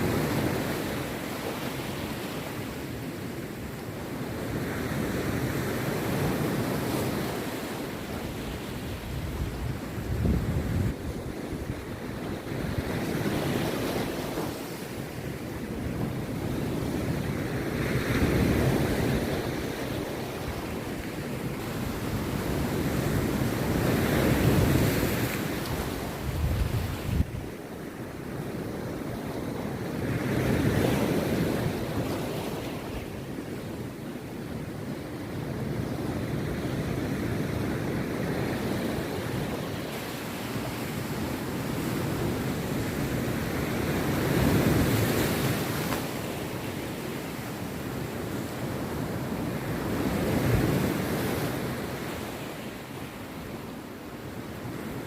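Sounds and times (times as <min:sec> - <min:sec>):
rough sea surf breaking on a beach: 0:00.0 - 0:55.0.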